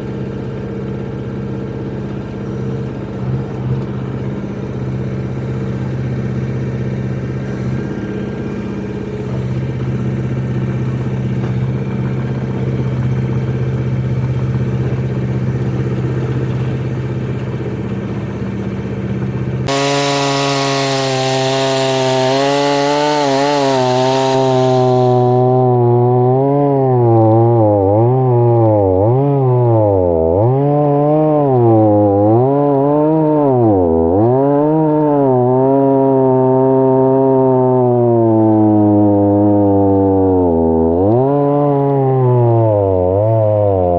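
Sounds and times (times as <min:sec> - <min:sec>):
chainsaw running: 0:00.0 - 0:43.9
engine running steadily: 0:00.0 - 0:43.9.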